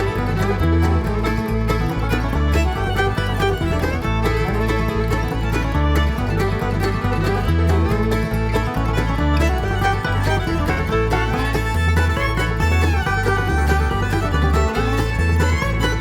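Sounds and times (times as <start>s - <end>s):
bluegrass music: 0.0s - 16.0s.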